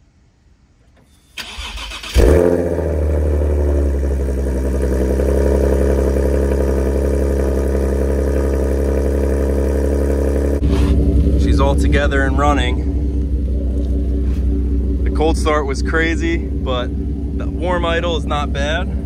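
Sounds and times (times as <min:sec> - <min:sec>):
car engine starting and idling: 0:00.8 - 0:19.0.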